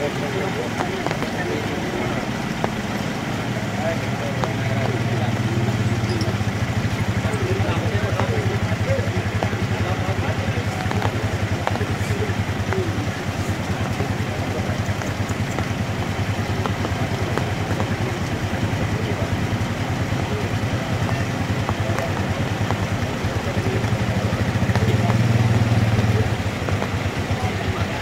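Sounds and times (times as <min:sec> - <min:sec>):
pickup truck engine idling: 0:00.0 - 0:28.0.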